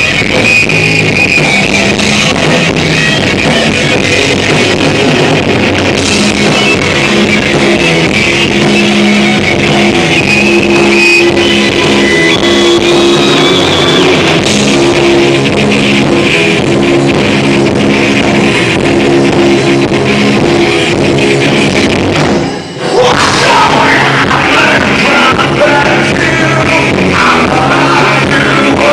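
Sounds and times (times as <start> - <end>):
drum kit: 0.0 - 28.9
electric guitar riffing: 0.0 - 28.9.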